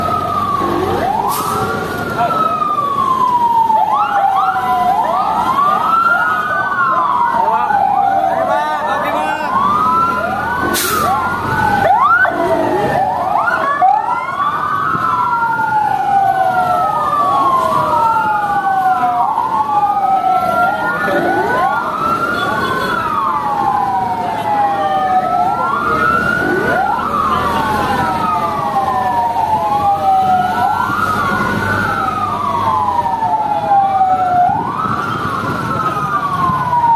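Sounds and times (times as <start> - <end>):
fire truck sirens wailing: 0.0 - 36.9.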